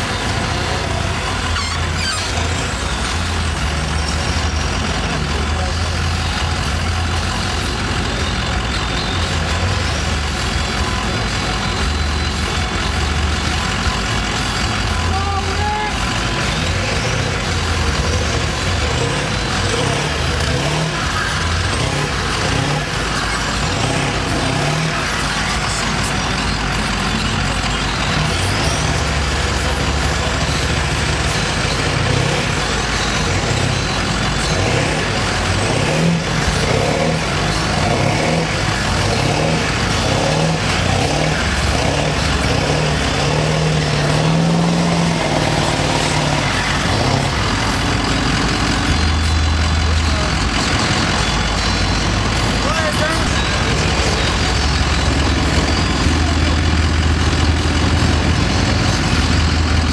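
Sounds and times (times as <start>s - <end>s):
truck engine rumbling under load: 0.0s - 59.9s.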